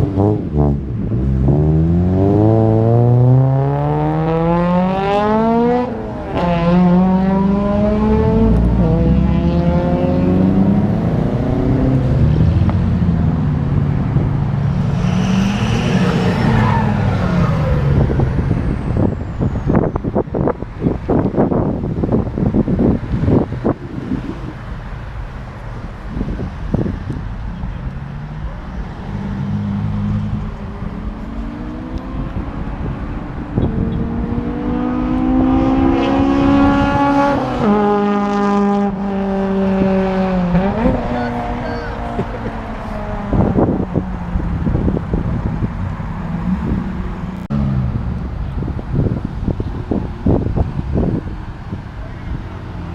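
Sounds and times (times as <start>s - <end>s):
cars driving past: 0.0s - 52.9s
wind buffeting microphone: 9.8s - 28.4s, 29.0s - 52.9s.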